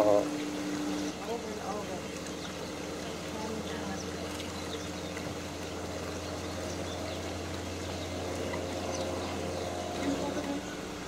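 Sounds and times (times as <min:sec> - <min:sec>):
constant low hum: 0:00.0 - 0:11.0
water lapping: 0:00.0 - 0:11.0.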